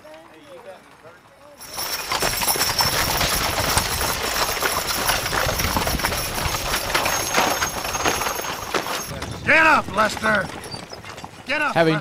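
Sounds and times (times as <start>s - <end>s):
horse hooves clip-clopping: 0.0s - 12.0s
wooden wheels rattling over ground: 1.0s - 12.0s.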